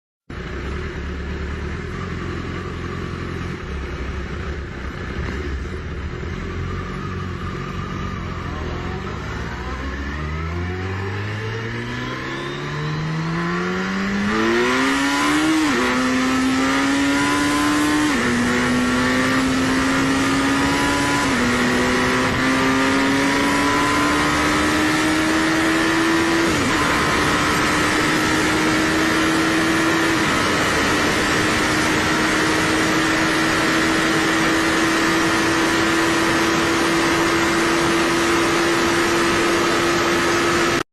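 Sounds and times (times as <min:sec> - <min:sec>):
motorcycle engine accelerating: 0:00.3 - 0:40.9.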